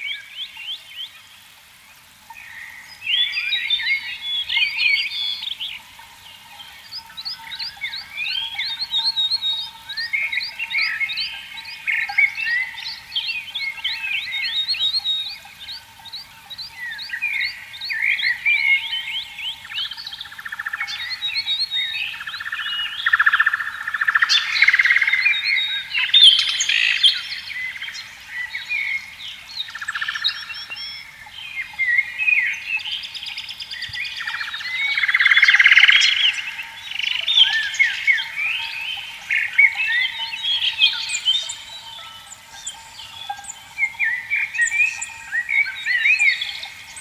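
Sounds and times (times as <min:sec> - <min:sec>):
birds chirping and calling: 0:02.4 - 0:47.0.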